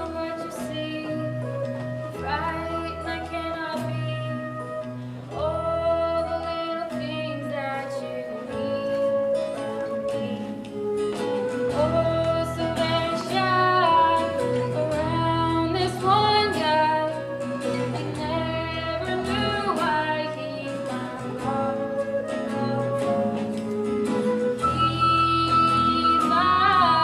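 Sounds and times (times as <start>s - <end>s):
instrumental accompaniment: 0.0s - 27.0s
woman singing: 0.0s - 27.0s.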